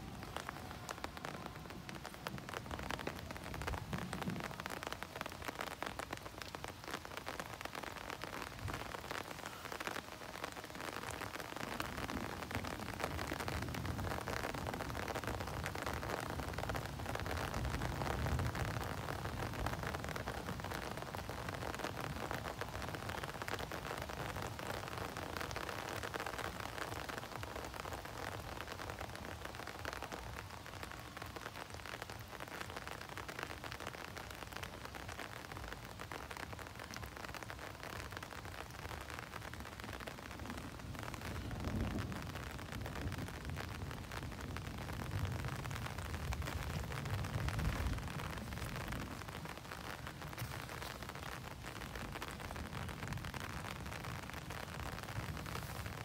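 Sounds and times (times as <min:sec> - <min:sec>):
thunder rumble: 0:00.0 - 0:06.7, 0:07.4 - 0:32.3, 0:38.8 - 0:56.0
rain pattering: 0:00.0 - 0:56.0.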